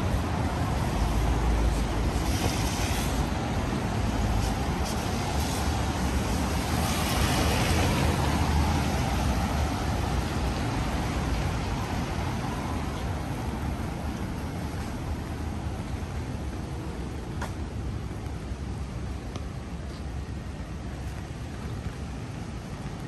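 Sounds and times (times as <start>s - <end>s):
tyres hissing on wet road: 0.0s - 19.2s
traffic rumble: 0.0s - 23.0s.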